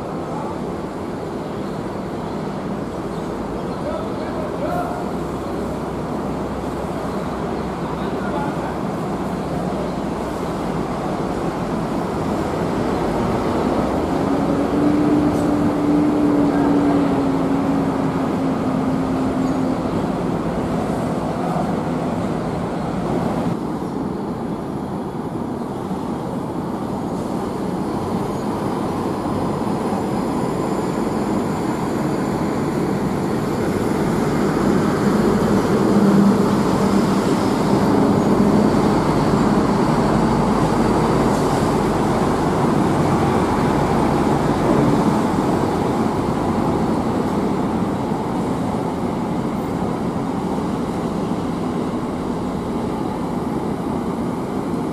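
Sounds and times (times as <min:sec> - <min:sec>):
bus engine humming: 0:00.0 - 0:54.9.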